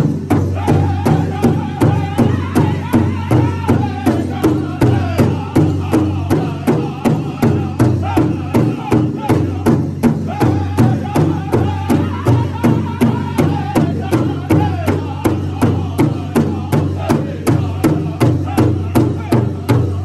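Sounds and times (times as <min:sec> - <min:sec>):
large drum beating: 0:00.0 - 0:20.0
men singing high-pitched: 0:00.0 - 0:20.0.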